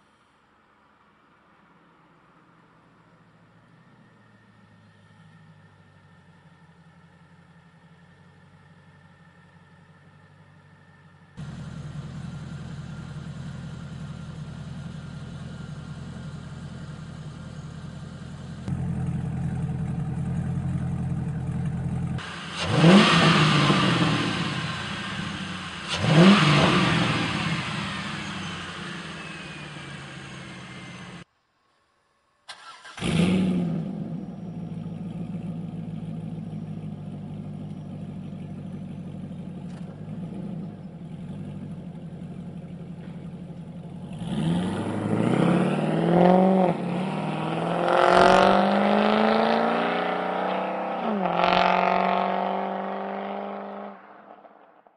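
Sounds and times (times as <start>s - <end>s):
car accelerating and shifting up: 3.1s - 31.3s, 32.5s - 54.9s
car engine revving and idling: 3.8s - 31.3s, 32.5s - 54.8s.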